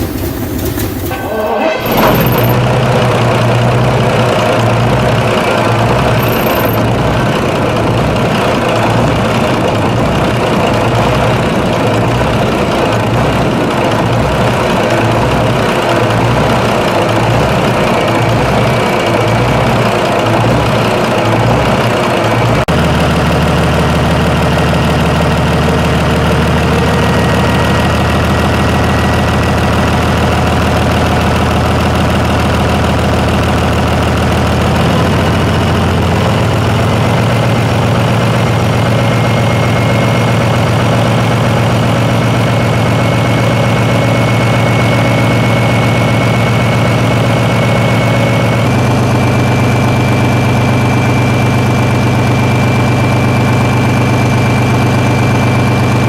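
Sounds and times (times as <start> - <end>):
large engine idling: 0.0 - 56.0.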